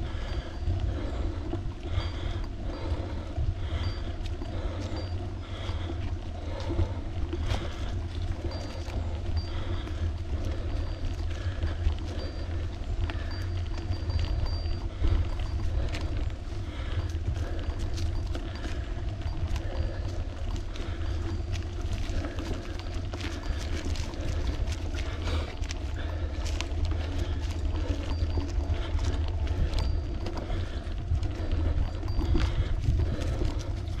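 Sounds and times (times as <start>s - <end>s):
rolling road noise: 0.0s - 34.0s
small clicks and rattles: 0.0s - 34.0s
wind buffeting microphone: 0.0s - 34.0s.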